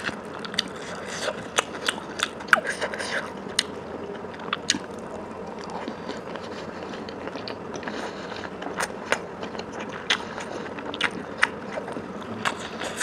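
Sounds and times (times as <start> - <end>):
wet chewing and crunching: 0.0 - 13.0.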